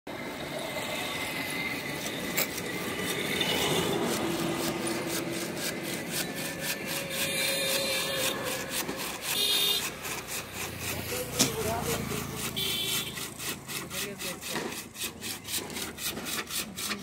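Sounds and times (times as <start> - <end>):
handsaw cutting bamboo: 0.9 - 17.0.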